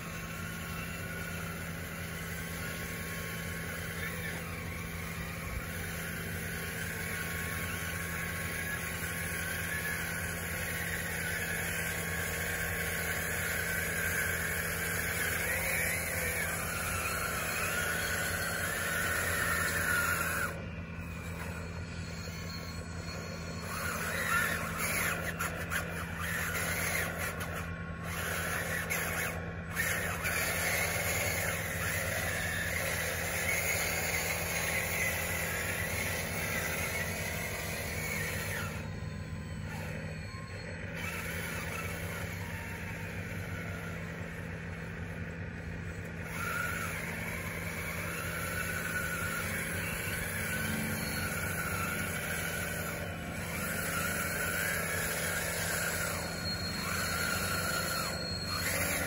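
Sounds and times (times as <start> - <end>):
electric motors whining: 0.0 - 59.0
steady low hum: 0.0 - 59.0.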